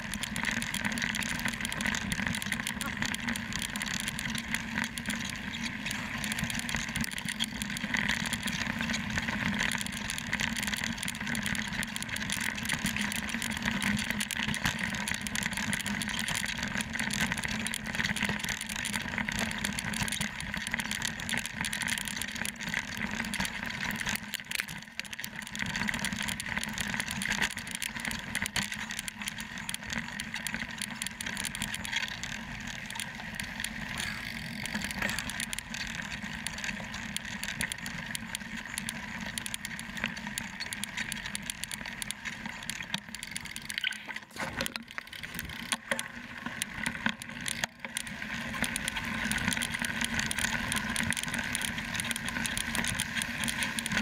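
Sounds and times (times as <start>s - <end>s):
bike rattles and clicks: 0.0s - 54.0s
bike tyres on gravel: 0.0s - 54.0s.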